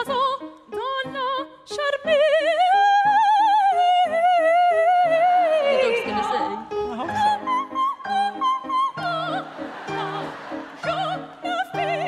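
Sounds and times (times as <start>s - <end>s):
piano accompaniment: 0.0s - 12.0s
soprano singing operatically: 0.0s - 12.0s.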